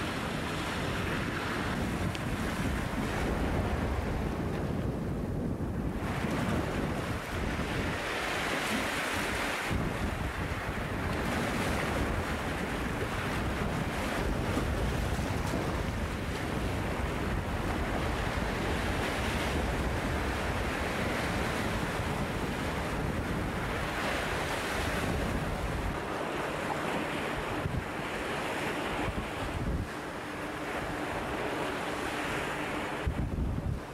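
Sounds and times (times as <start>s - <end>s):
surf washing over rocks: 0.0s - 4.6s, 5.9s - 33.9s
wind buffeting microphone: 0.0s - 33.9s.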